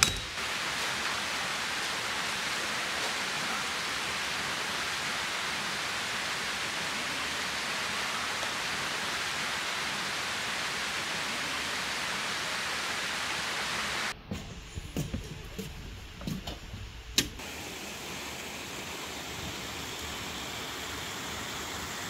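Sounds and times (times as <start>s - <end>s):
rushing hiss: 0.0s - 22.0s.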